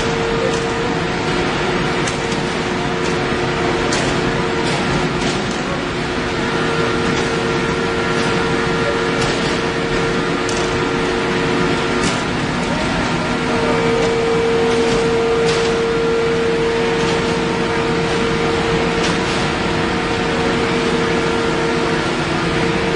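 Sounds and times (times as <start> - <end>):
machine hum and whine: 0.0 - 22.9.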